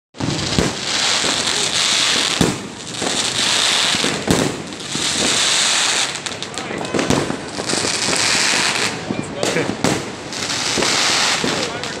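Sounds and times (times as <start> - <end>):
fireworks crackling: 0.2 - 12.0
fireworks sharp bangs: 0.2 - 12.0.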